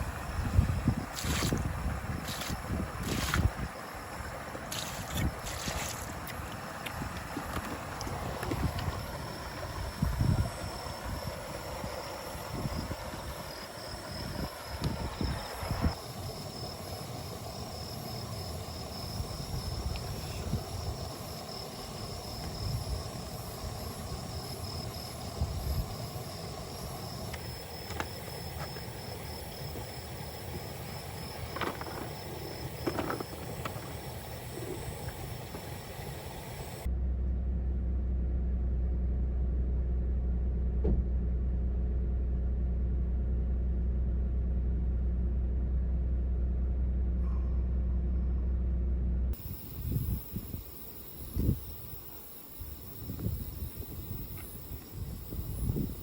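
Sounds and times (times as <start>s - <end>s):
pulsing insect trill: 0.0s - 36.9s, 41.3s - 56.0s
low rumble with hum: 0.0s - 56.0s.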